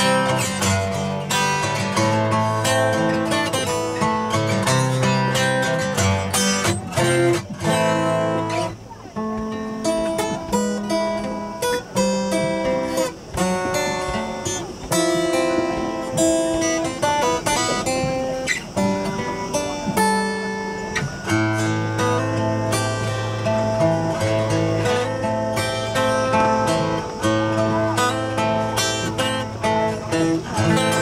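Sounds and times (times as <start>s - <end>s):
acoustic guitars strumming: 0.0s - 31.0s.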